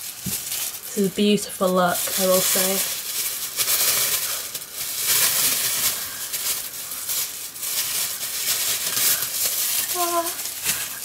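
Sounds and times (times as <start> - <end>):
plastic gloves crinkling: 0.0 - 11.0.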